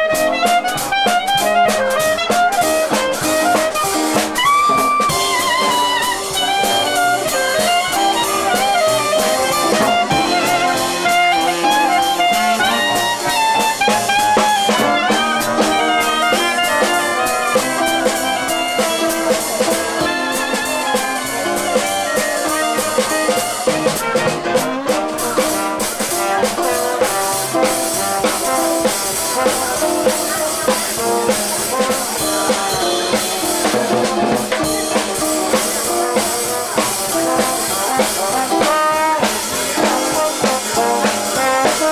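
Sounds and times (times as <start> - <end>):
clarinet melody: 0.0 - 41.9
drum kit: 0.0 - 41.9
jazz band playing: 0.0 - 41.9.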